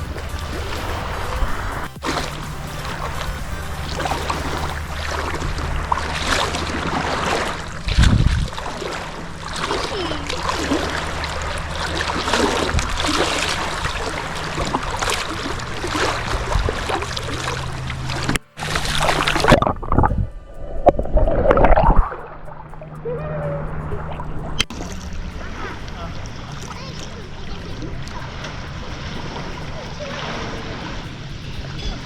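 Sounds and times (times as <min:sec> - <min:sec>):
background music: 0:00.0 - 0:08.0, 0:09.2 - 0:32.0
water splashing: 0:00.0 - 0:32.0
wind noise: 0:00.0 - 0:32.0.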